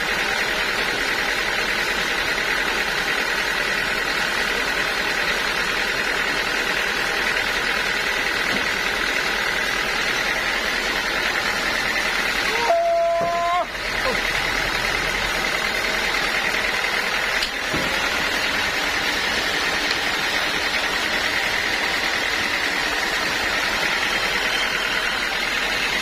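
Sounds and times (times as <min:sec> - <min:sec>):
sawmill saw whining through wood: 0:00.0 - 0:26.0.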